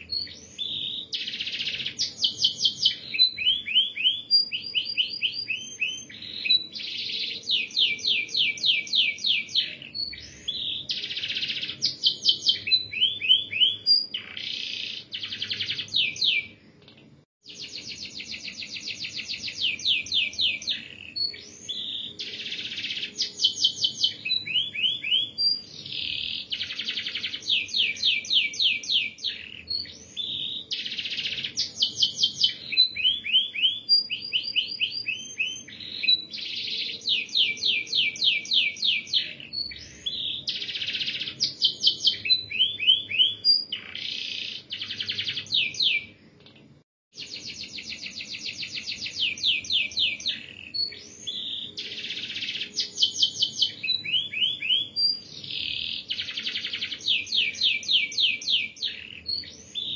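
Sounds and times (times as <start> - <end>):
canary singing trills: 0.0 - 46.4, 47.2 - 59.9.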